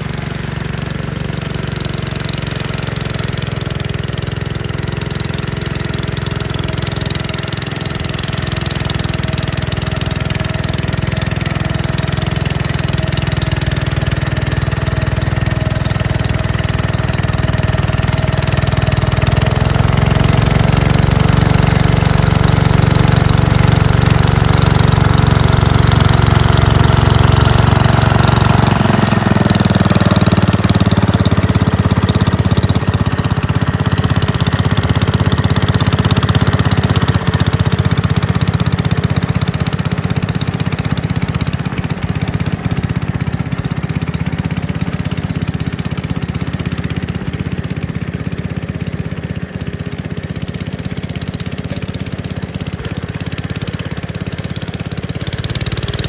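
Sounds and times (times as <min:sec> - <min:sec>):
walk-behind tractor engine running: 0:00.0 - 0:56.0.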